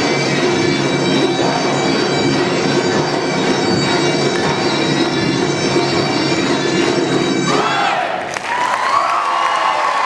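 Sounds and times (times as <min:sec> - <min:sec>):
wind instrument melody: 0:00.0 - 0:08.2
folk dance music: 0:00.0 - 0:08.4.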